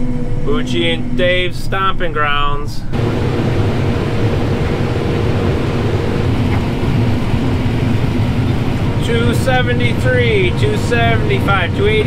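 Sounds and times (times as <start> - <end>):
combine harvester droning: 0.0 - 12.0
faint steady hum: 0.0 - 12.0.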